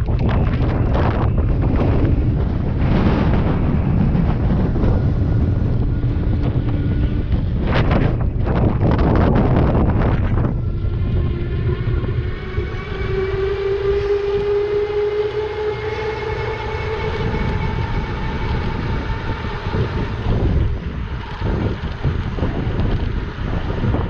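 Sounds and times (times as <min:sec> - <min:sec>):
electric motor whining: 0:00.0 - 0:24.0
wind buffeting microphone: 0:00.0 - 0:24.0.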